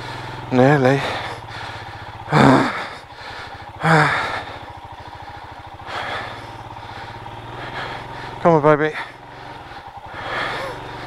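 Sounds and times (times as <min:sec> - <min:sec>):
heavy gasping breaths: 0:00.0 - 0:11.0
motorcycle engine running: 0:00.0 - 0:11.0.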